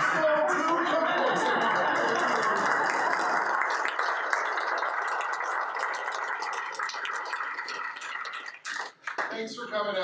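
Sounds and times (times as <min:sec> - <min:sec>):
audience applause: 0:00.0 - 0:09.4.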